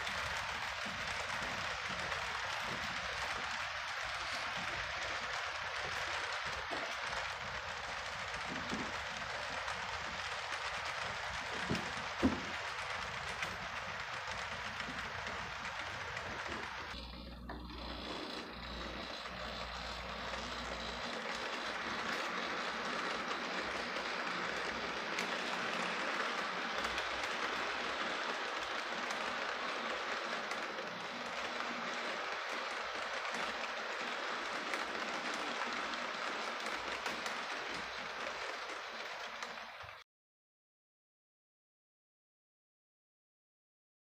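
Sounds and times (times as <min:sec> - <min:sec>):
ticks over rail joints: 0:00.0 - 0:17.7, 0:18.4 - 0:39.9
model train wheels rolling on rails: 0:00.0 - 0:40.0.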